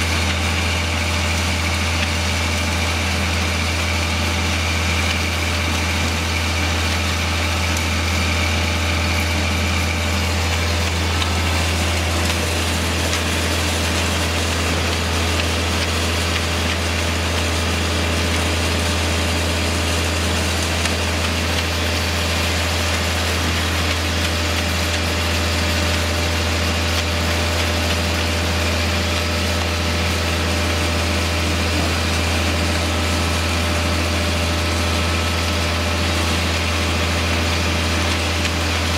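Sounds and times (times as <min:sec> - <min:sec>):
truck diesel engine droning: 0:00.0 - 0:38.9.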